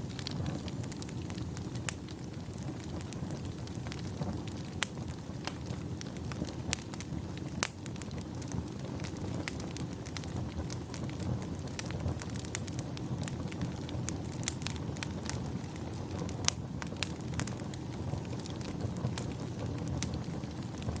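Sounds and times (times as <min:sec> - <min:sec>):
low fire rumble: 0:00.0 - 0:21.0
wood fire crackling: 0:00.0 - 0:21.0.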